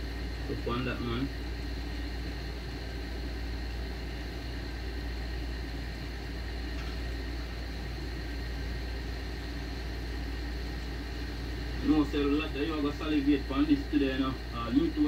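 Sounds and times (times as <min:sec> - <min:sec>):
faint high hum: 0:00.0 - 0:15.0
steady low rumble: 0:00.0 - 0:15.0.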